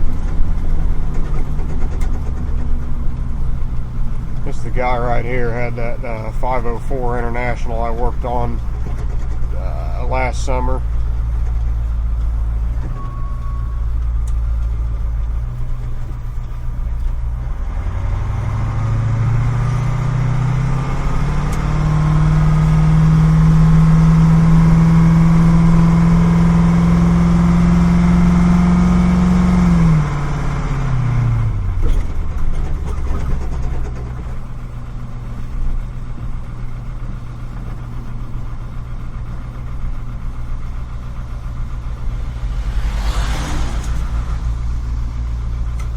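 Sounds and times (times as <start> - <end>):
truck engine idling and revving: 0.0 - 45.9.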